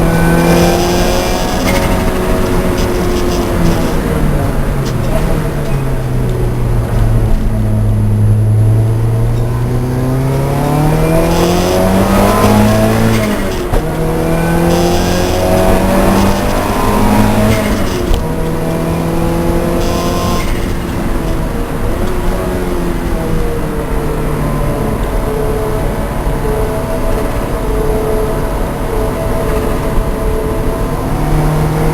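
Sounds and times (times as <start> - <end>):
race car engine revving: 0.0 - 25.6, 30.7 - 31.9.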